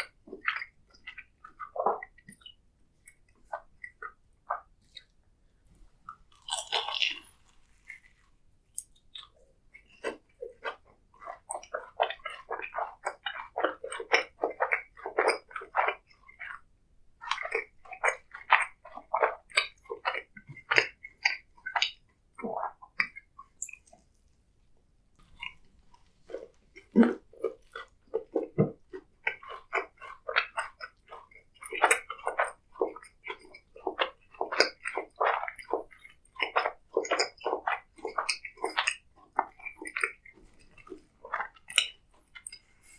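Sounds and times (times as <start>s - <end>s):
chewing crisp snack food: 0.0s - 42.9s.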